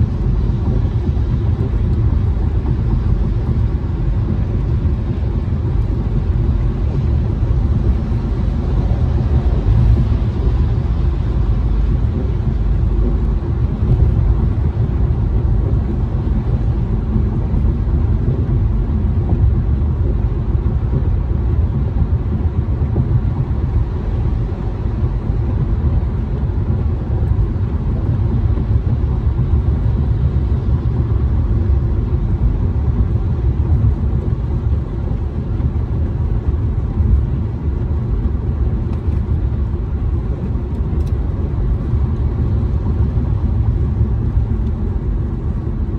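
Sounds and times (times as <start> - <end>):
car engine rumble: 0.0 - 45.9.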